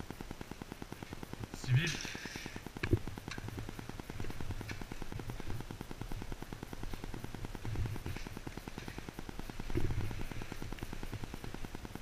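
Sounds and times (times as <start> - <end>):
rapid electronic ticking buzz: 0.0 - 12.0.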